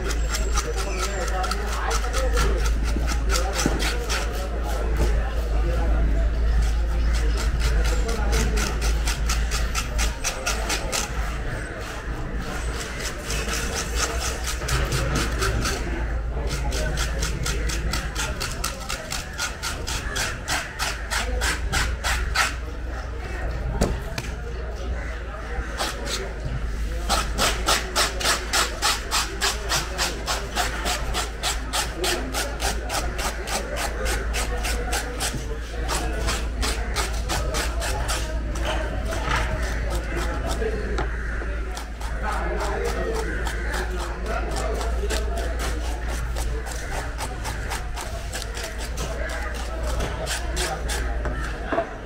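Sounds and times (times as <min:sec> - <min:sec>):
knife scraping fish scales: 0:00.0 - 0:04.8, 0:06.5 - 0:11.7, 0:12.4 - 0:15.9, 0:16.5 - 0:22.6, 0:25.6 - 0:51.6.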